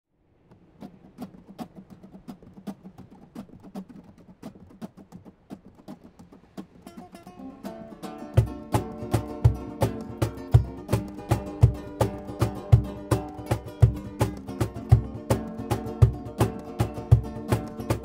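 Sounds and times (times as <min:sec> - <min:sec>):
percussive tapping: 0:00.5 - 0:18.0
acoustic guitar strumming: 0:00.8 - 0:18.0.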